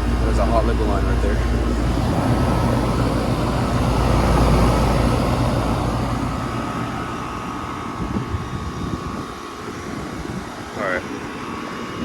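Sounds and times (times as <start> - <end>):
compressor humming: 0.0 - 12.0
condenser fan rushing air: 0.0 - 12.0.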